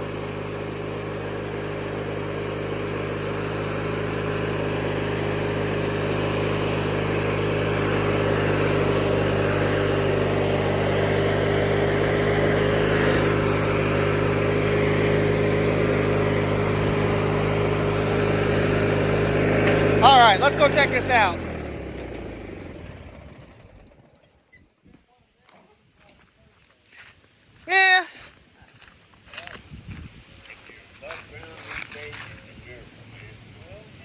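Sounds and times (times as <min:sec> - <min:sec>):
riding lawnmower engine running: 0:00.0 - 0:24.8, 0:28.7 - 0:34.0.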